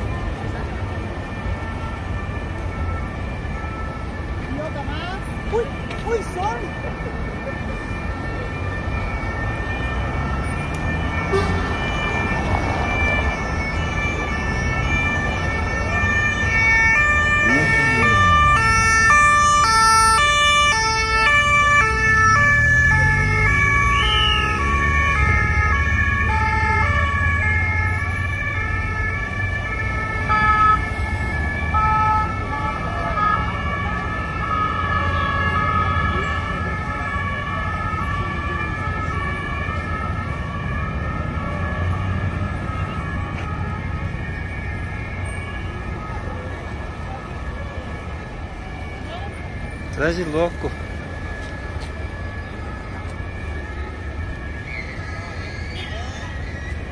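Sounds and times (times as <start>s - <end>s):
motorcycle engines: 0.0s - 56.9s
police two-tone sirens: 0.0s - 56.9s
road traffic passing: 0.0s - 56.9s.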